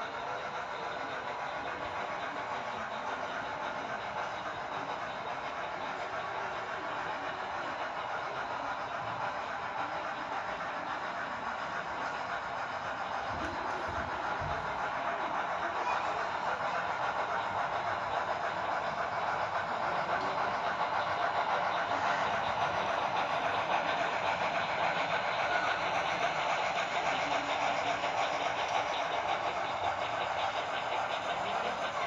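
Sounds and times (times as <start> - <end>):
model steam locomotive chuffing: 0.0 - 32.0
model train rolling on track: 0.0 - 32.0.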